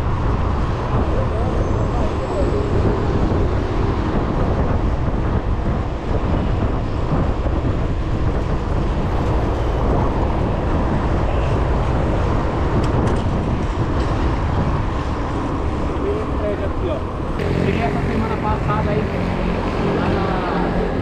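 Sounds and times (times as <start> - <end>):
bicycle tyre and road noise: 0.0 - 21.0
wind buffeting microphone: 0.0 - 21.0.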